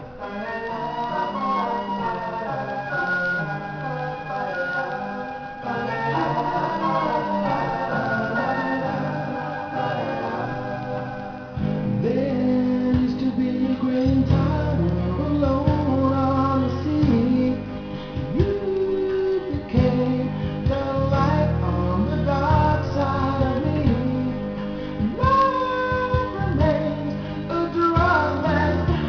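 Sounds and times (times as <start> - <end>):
guitar accompaniment: 0.0 - 29.0.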